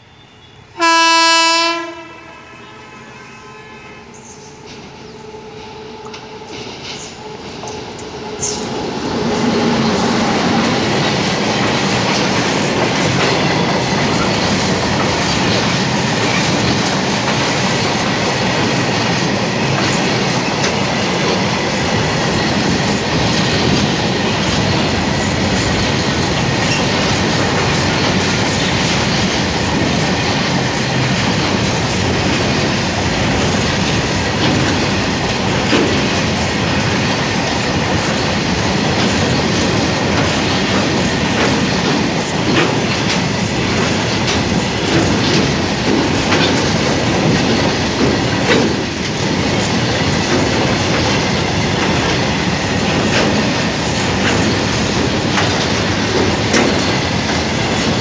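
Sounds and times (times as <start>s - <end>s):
electric locomotive passing: 0.0s - 58.0s
freight wagons rumbling on rails: 4.4s - 58.0s.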